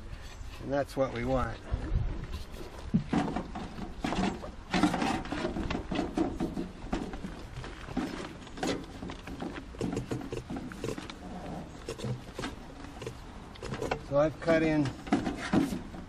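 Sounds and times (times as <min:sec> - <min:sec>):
plastic pipe knocking and scraping: 0:01.8 - 0:16.0.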